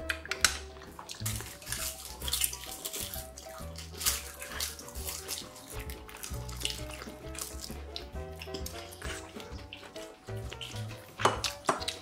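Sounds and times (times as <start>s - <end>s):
soft background music: 0.0s - 12.0s
wet chewing: 0.0s - 12.0s.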